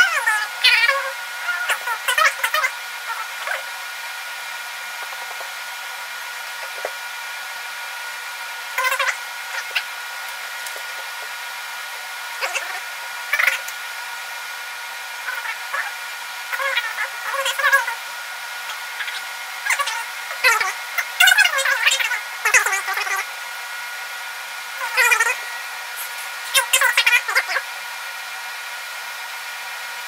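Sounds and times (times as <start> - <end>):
steady whirring hiss: 0.0 - 30.0.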